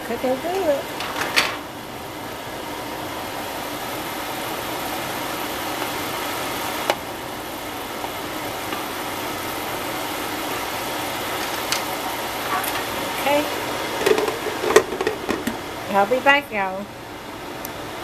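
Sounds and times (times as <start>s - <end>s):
broth boiling and bubbling: 0.0s - 18.0s.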